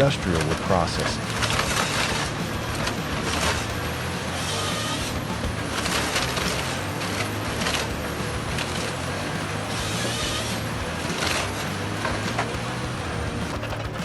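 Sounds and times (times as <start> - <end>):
heavy machinery humming: 0.0 - 14.0.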